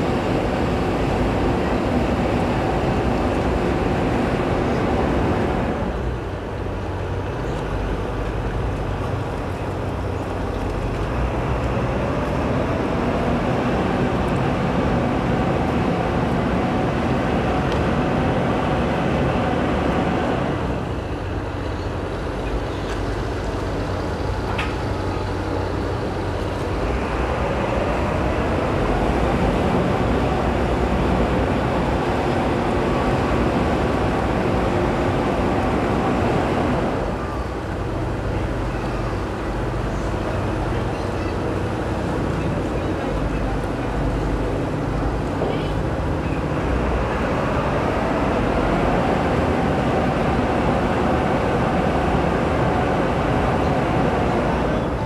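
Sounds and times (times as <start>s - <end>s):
boat diesel engine running: 0.0s - 55.0s.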